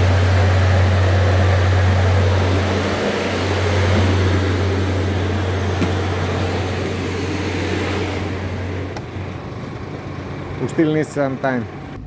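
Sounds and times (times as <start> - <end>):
refrigeration unit fans humming: 0.0 - 12.0.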